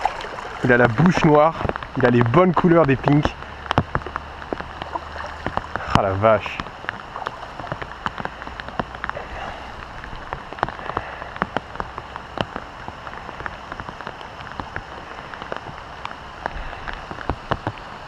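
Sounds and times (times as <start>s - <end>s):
rain hissing on water: 0.0s - 18.0s
raindrops ticking: 0.0s - 18.0s.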